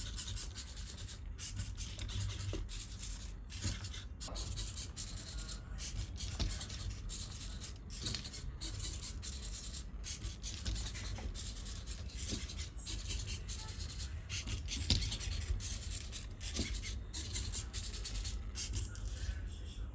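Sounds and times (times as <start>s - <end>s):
servo motors whirring: 0.0s - 19.3s
steady low hum: 0.0s - 19.9s.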